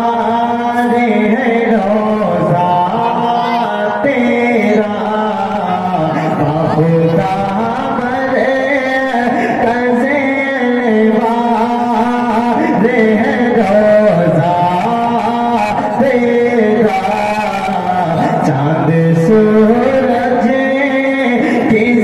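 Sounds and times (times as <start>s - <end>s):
man singing devotional song: 0.0s - 22.0s.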